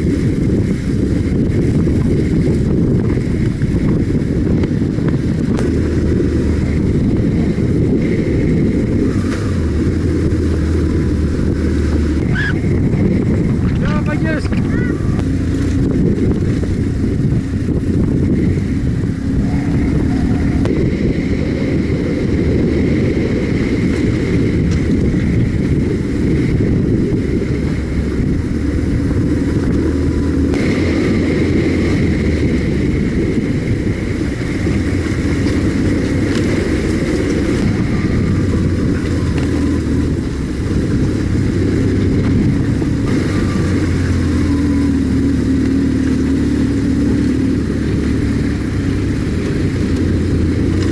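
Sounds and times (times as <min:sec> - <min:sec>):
motorcycle engine rumbling: 0:00.0 - 0:50.9.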